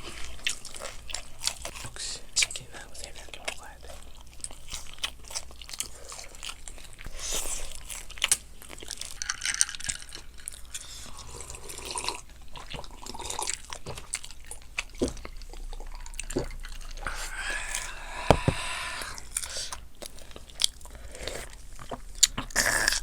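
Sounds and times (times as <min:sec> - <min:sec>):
wet chewing: 0:00.0 - 0:23.0.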